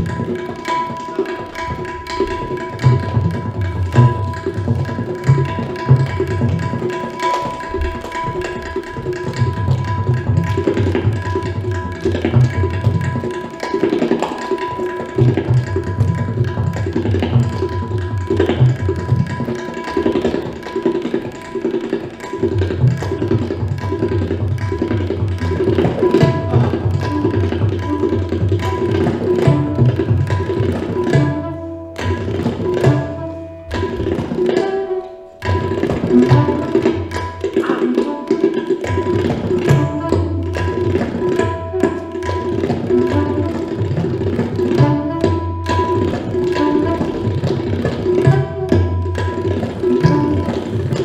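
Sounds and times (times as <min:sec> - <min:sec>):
tabla strokes: 0:00.0 - 0:51.0.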